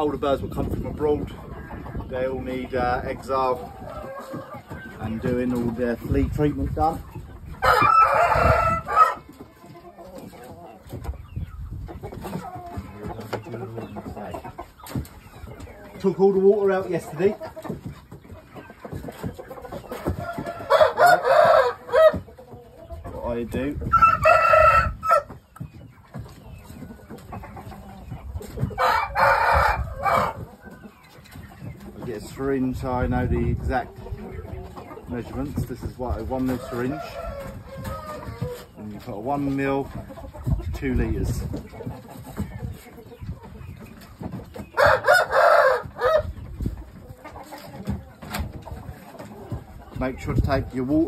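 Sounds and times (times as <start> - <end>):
roosters calling harshly: 0.0 - 51.0.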